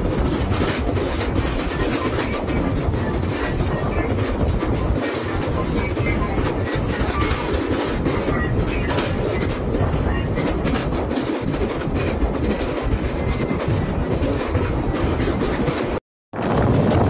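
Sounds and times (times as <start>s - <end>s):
wheels clattering over rails: 0.0s - 16.0s
train coaches rumbling: 0.0s - 17.0s.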